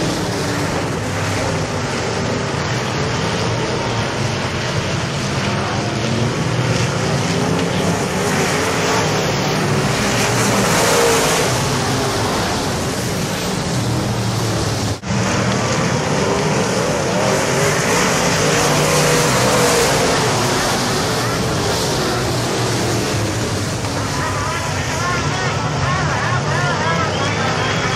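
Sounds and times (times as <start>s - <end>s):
race car engines passing: 0.0s - 27.9s.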